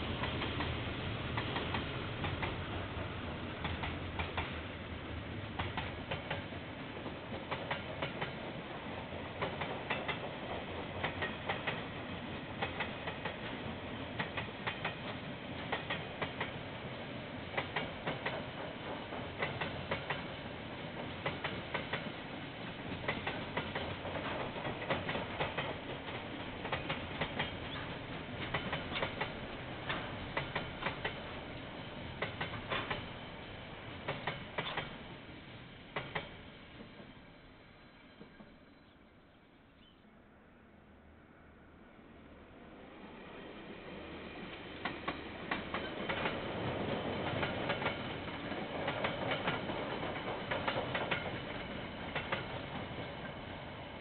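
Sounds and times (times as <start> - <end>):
freight train rolling rumble: 0.0 - 39.0, 41.9 - 54.0
train wheels clicking over rail joints: 0.1 - 4.7, 5.4 - 16.6, 17.4 - 35.2, 35.9 - 37.2, 44.5 - 53.8.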